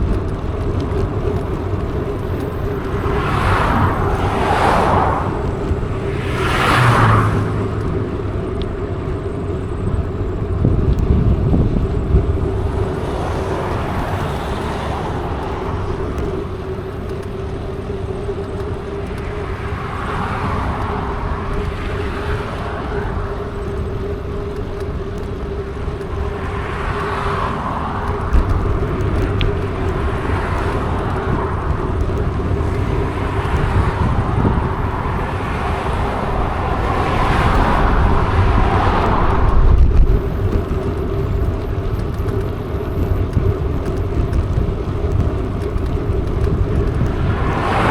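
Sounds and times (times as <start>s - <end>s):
bike rolling hum: 0.0s - 47.9s
passing motor traffic: 0.0s - 47.9s
road and wind noise: 0.0s - 47.9s.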